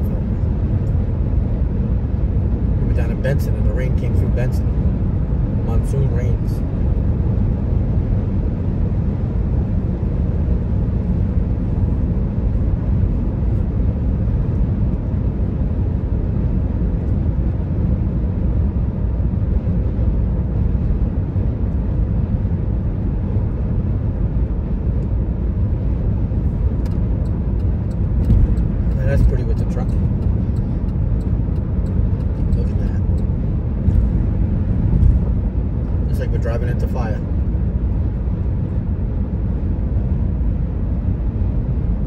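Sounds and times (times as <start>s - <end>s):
car road and engine noise: 0.0s - 42.0s.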